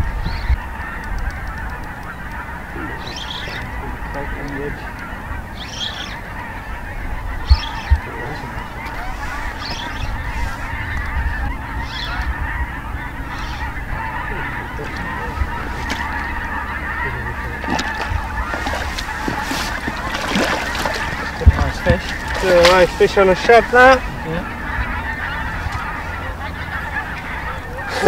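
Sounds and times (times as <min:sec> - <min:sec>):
birds calling: 0:00.0 - 0:28.0
steady outdoor noise: 0:00.0 - 0:28.0.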